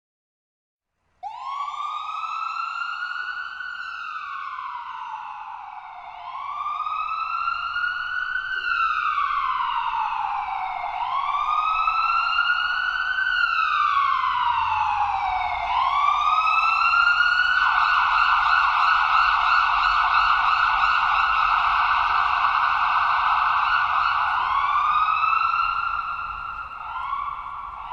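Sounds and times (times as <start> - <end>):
ambulance siren: 1.2 - 27.9.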